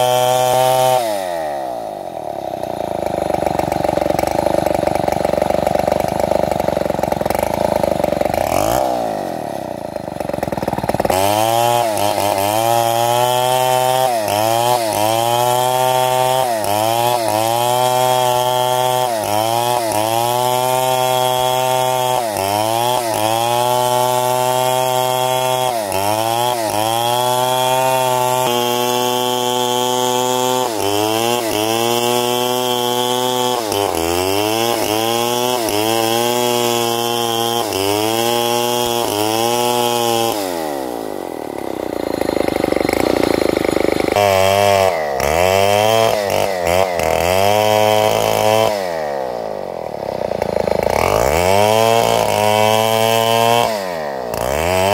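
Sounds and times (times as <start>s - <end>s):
motor-driven saw cutting wood: 0.0s - 54.9s.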